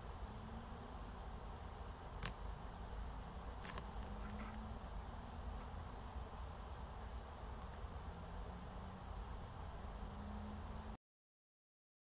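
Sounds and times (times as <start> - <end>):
faint low buzz: 0.0 - 11.0.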